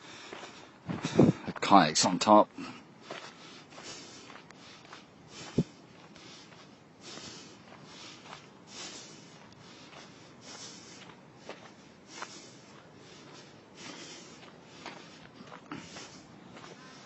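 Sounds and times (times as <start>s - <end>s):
faint outdoor hiss: 0.0s - 17.0s
footsteps scuffing: 3.0s - 17.0s.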